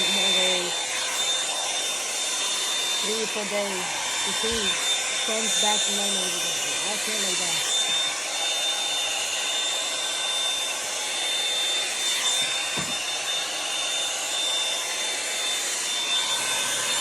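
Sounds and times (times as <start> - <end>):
hot air brush running: 0.0 - 17.0.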